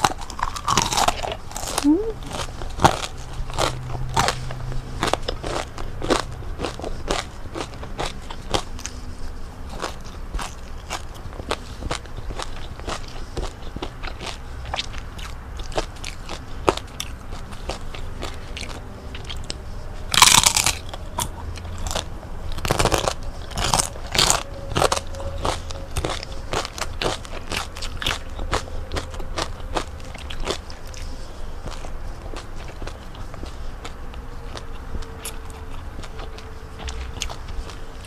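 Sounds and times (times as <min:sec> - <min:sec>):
crunchy food chewing: 0:00.0 - 0:38.0.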